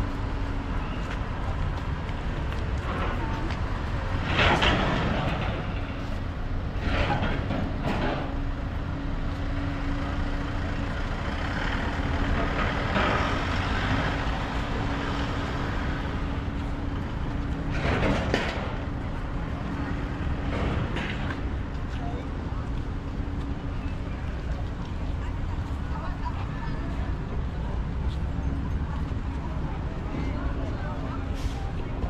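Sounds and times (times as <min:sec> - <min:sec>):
vehicle engines idling: 0:00.0 - 0:32.0.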